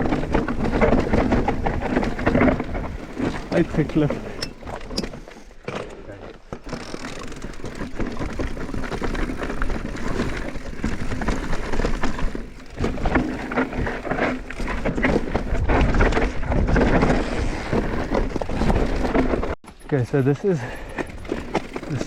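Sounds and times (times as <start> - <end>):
bike rattling: 0.0 - 22.0
bike tyres crunching over rock: 0.0 - 22.0.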